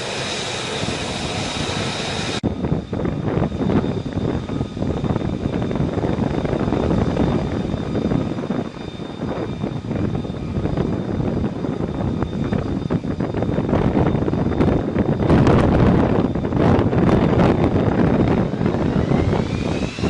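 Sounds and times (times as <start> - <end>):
jet engine rushing: 0.0 - 20.0.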